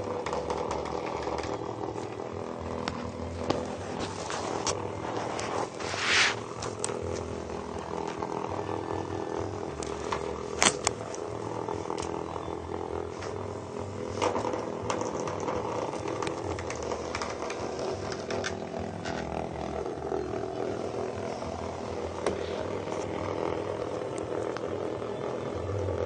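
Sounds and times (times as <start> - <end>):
vibrating toys buzzing: 0.0 - 26.0.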